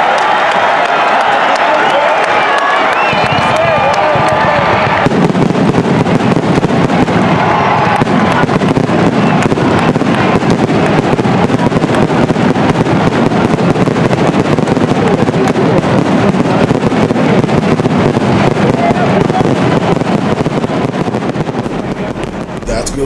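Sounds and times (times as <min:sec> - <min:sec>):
dense crackling and popping: 0:03.0 - 0:23.0.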